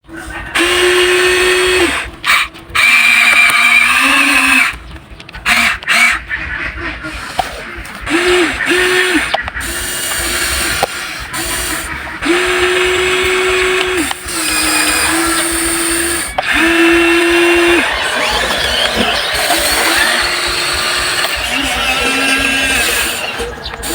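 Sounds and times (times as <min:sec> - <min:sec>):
small electric motors whining: 0:00.0 - 0:23.9.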